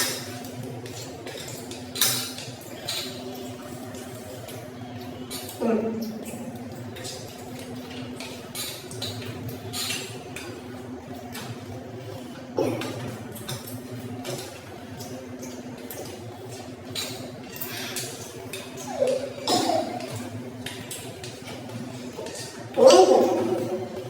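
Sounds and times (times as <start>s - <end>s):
dishes and cutlery clinking: 0.0s - 5.6s, 6.2s - 10.6s, 12.6s - 24.0s.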